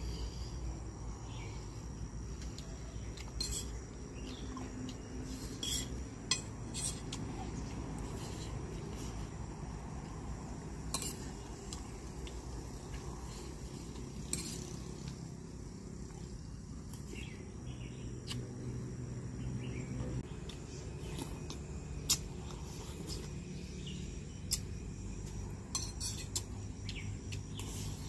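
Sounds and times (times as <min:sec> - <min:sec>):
faint high insect hum: 0:00.0 - 0:28.0.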